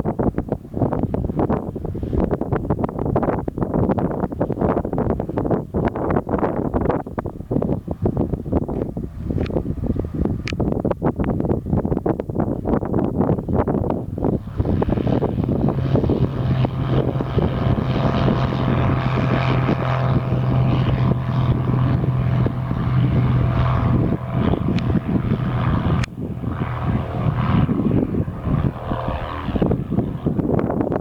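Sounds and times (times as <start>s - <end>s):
propeller airplane engine drone: 0.0s - 31.0s
wind buffeting microphone: 0.0s - 31.0s.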